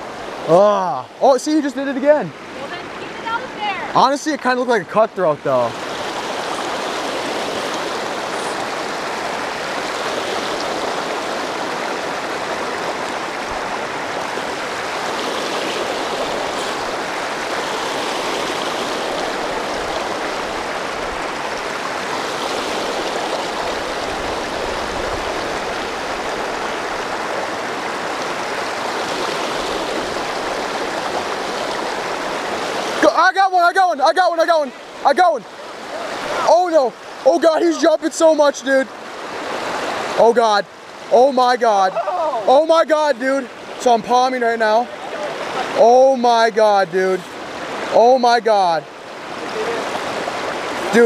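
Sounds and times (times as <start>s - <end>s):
stream running: 0.0s - 51.0s.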